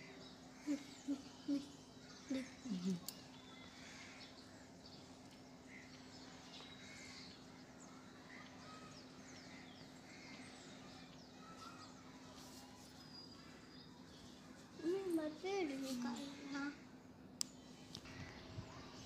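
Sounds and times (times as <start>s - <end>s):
distant birds chirping: 0.0s - 19.0s.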